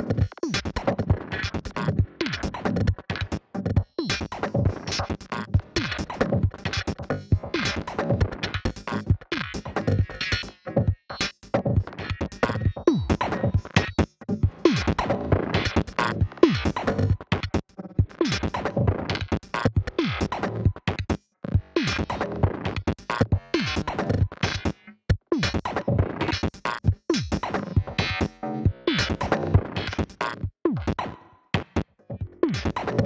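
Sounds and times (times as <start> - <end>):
electronic drum machine and synth music: 0.0 - 33.0.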